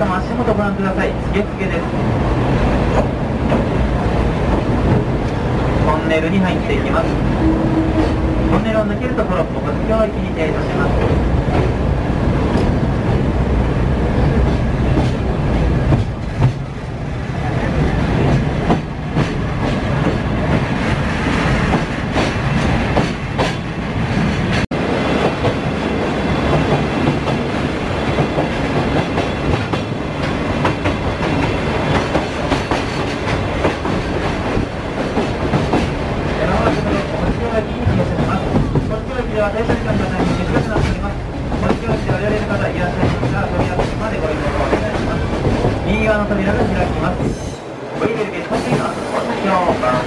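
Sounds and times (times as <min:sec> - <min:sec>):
train wheels clickety-clack: 0:00.0 - 0:05.8, 0:06.4 - 0:13.6, 0:14.2 - 0:16.9, 0:17.6 - 0:50.0.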